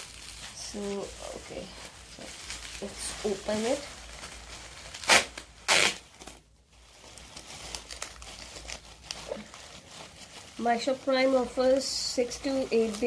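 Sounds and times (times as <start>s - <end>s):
bubble wrap crinkling: 0.0s - 13.0s
bubble wrap ripping: 0.0s - 13.0s.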